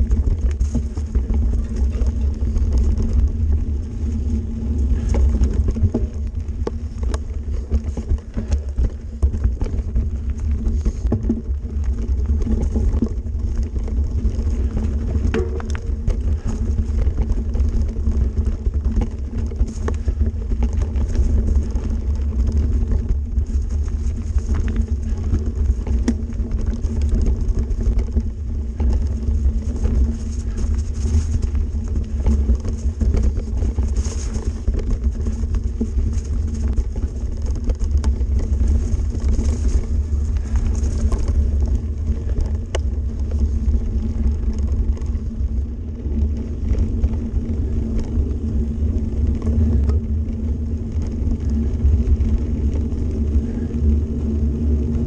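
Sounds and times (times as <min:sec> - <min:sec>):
bike knocks and rattles: 0:00.0 - 0:55.0
bike wind and vibration rumble: 0:00.0 - 0:55.0.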